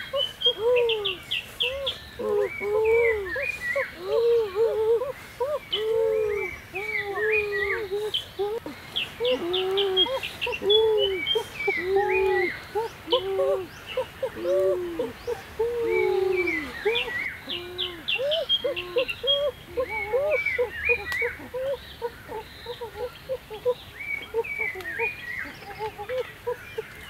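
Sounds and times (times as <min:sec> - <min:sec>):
low arched bird calls: 0:00.0 - 0:27.0.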